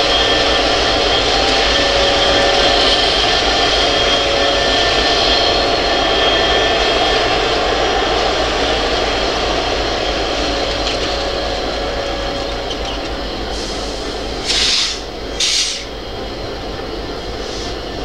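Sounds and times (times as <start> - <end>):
diesel locomotive engine drone: 0.0 - 18.0
high whine: 0.0 - 18.0.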